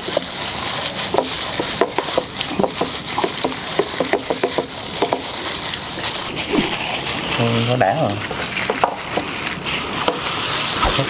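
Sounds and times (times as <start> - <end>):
mixture squelching against bowl: 0.0 - 11.0
plastic glove rustling: 0.0 - 11.0.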